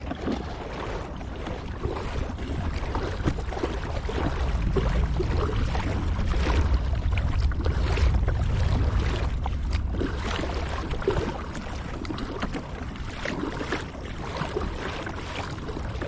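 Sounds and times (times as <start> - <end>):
paddle splashes and drips: 0.0 - 16.0
steady low rumble: 1.0 - 14.8.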